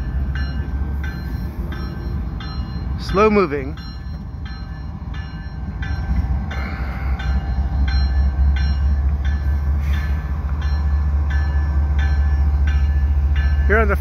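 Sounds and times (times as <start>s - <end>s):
diesel locomotive engines rumbling: 0.0s - 14.0s
locomotive bell ringing: 0.0s - 14.0s.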